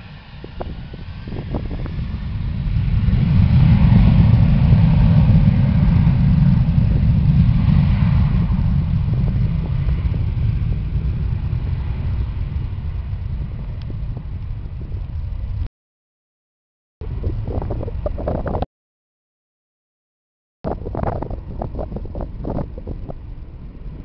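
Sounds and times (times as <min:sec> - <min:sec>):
jet engine roar: 0:00.0 - 0:15.7, 0:17.0 - 0:18.7, 0:20.7 - 0:24.0.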